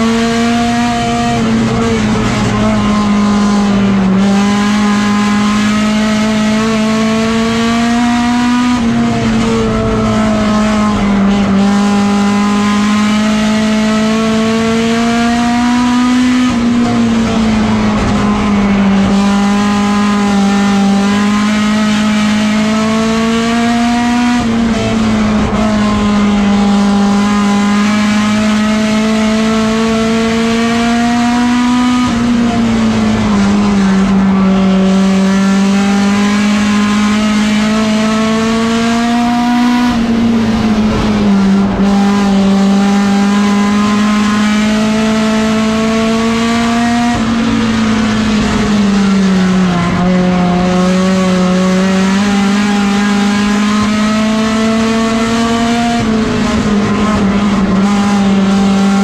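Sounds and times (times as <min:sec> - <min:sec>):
race car engine under load: 0:00.0 - 0:59.0.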